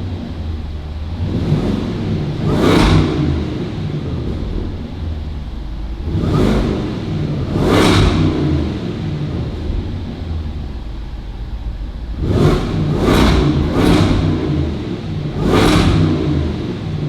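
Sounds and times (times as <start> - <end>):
car engine idling: 0.0 - 17.0
engine revving: 0.0 - 17.0.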